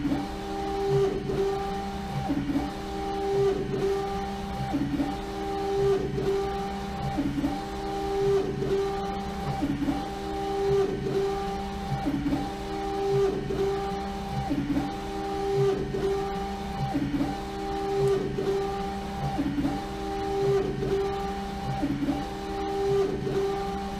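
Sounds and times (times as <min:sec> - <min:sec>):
printer carriage motor whine: 0:00.0 - 0:23.9.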